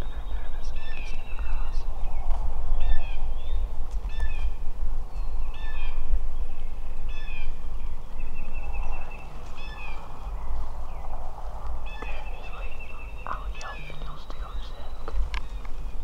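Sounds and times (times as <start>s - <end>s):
high bird calls: 0.0s - 16.0s
steady low rumble: 0.0s - 16.0s.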